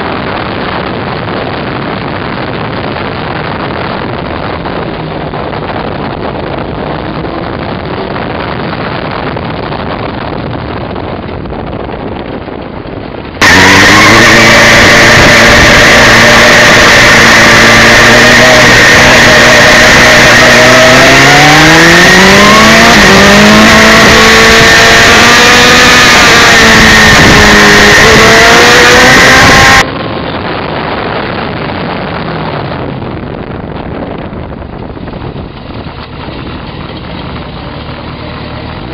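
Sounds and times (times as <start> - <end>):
motorcycle engine accelerating: 0.0 - 38.9
wind: 0.0 - 38.9.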